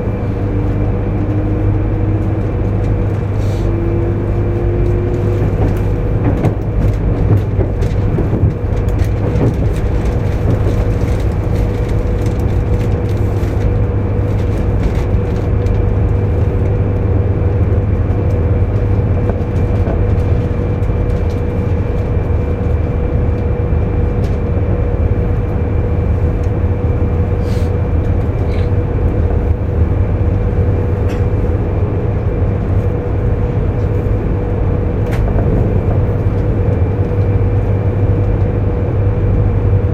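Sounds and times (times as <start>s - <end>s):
steady whine: 0.0s - 39.9s
train cabin rumble: 0.0s - 39.9s.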